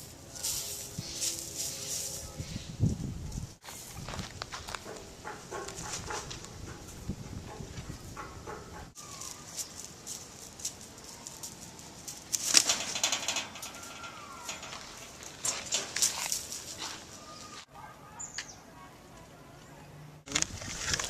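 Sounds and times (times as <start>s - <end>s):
farm birds calling: 0.0s - 3.0s, 3.6s - 21.0s.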